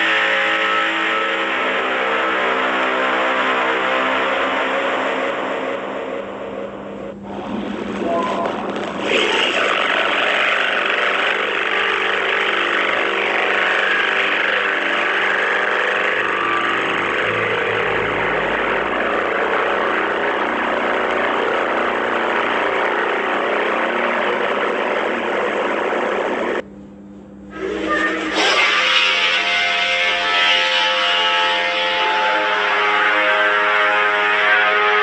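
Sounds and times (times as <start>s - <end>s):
dense processed drone: 0.0s - 26.7s, 27.3s - 35.0s
constant low hum: 0.0s - 35.0s.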